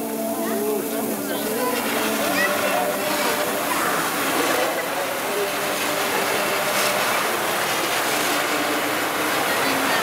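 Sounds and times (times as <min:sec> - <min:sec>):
firework fountains hissing and crackling: 0:00.0 - 0:10.0.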